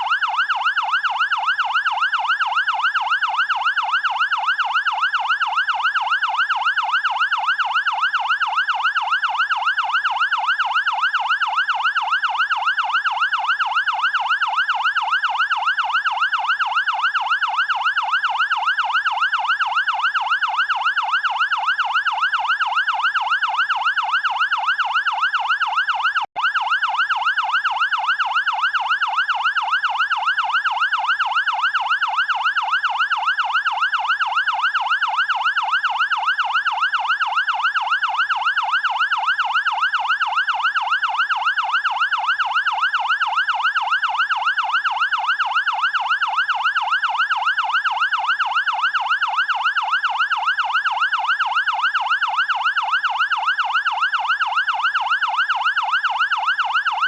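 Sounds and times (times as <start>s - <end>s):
fire engine siren yelping: 0.0s - 57.0s.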